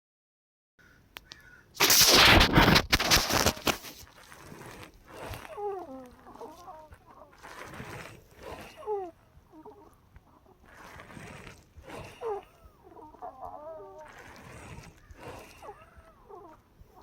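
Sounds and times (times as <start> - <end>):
rough rasping breathing: 1.8 - 17.0.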